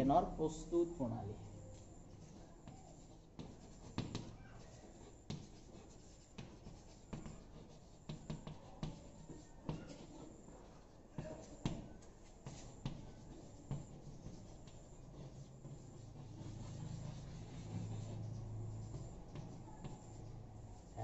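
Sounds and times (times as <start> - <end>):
chalk tapping and scraping: 0.0 - 21.0.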